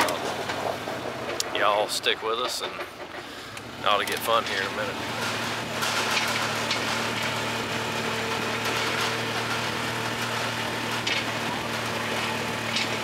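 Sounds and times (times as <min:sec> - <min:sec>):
road and tyre noise: 0:00.0 - 0:13.0
utility vehicle engine running: 0:00.0 - 0:13.0.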